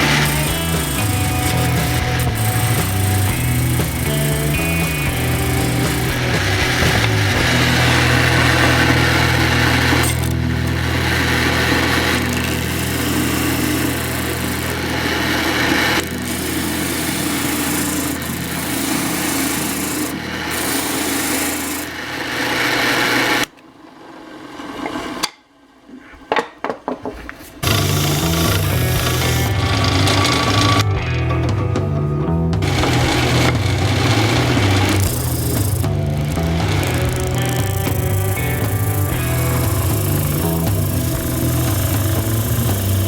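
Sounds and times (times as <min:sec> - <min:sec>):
power sander on wood: 0:00.0 - 0:23.5, 0:27.6 - 0:31.0, 0:32.6 - 0:43.0.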